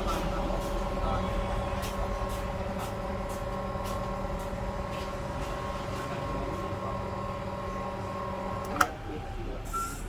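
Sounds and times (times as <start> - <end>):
electric machine hum: 0.0 - 9.2.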